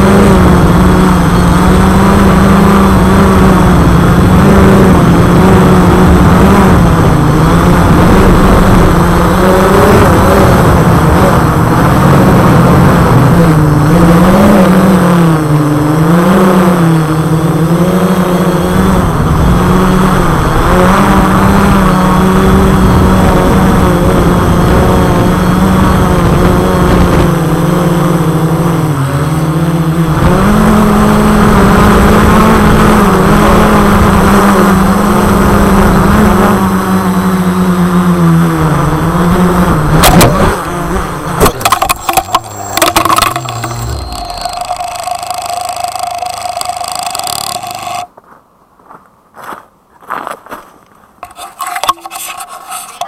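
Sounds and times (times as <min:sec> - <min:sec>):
drone motors and propellers droning: 0:00.0 - 0:48.2, 0:51.2 - 0:53.0.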